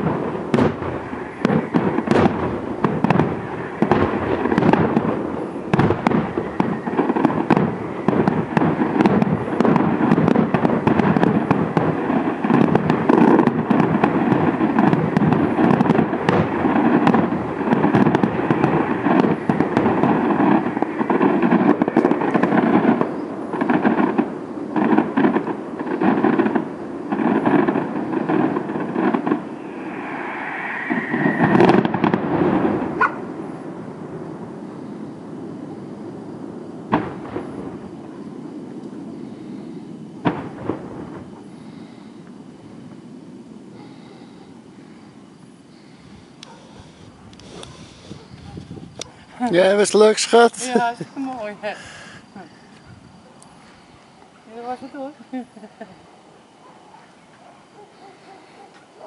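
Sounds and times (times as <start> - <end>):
fireworks bangs and crackling: 0.0 - 56.2.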